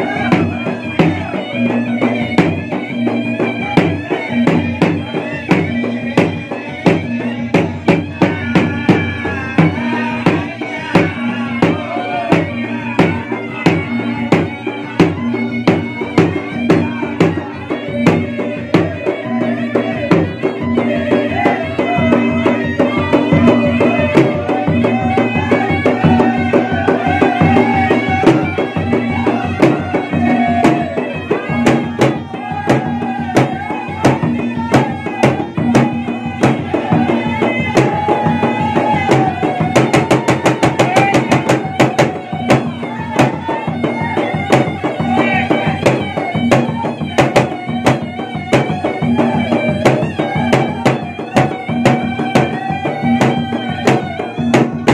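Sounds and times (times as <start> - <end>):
barrel drums beaten: 0.0 - 54.9
blown pipe melody: 0.0 - 54.9.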